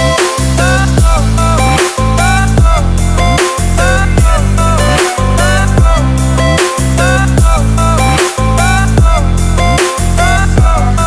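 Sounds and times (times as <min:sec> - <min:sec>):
dubstep music with heavy bass: 0:00.0 - 0:11.0.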